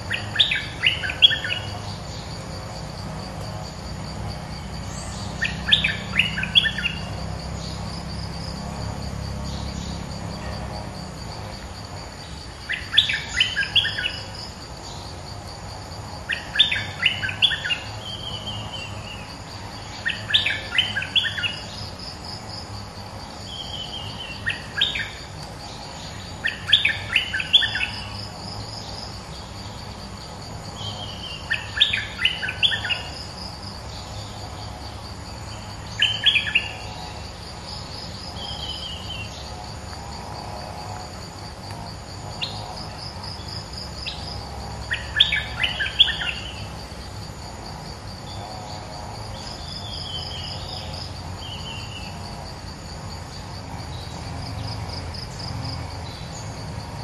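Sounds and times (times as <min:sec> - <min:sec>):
pulsing insect trill: 0:00.0 - 0:57.0.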